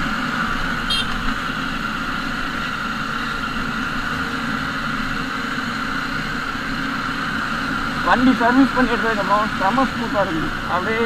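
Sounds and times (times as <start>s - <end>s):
motorcycle engine and road drone: 0.0s - 11.0s.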